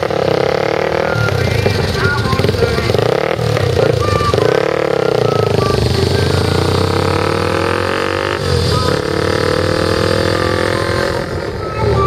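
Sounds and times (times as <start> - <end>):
vehicle engine accelerating: 0.0 - 12.0.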